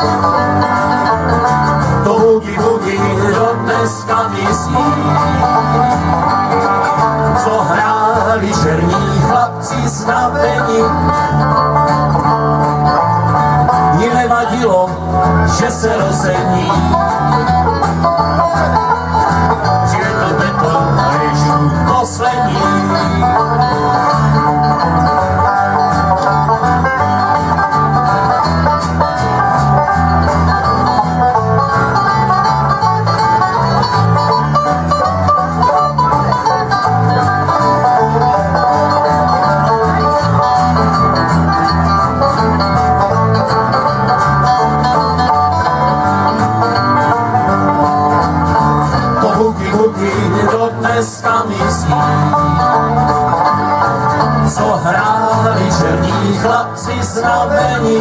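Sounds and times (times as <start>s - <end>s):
acoustic guitars strumming: 0.0s - 58.0s
electric bass line: 0.0s - 58.0s.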